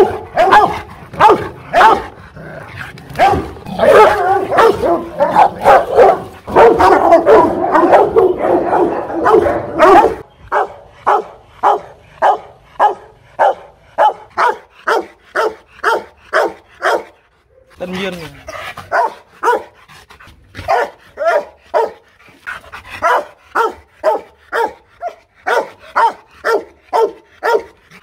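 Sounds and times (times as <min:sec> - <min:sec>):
dogs barking: 0:00.0 - 0:02.4, 0:03.0 - 0:28.0.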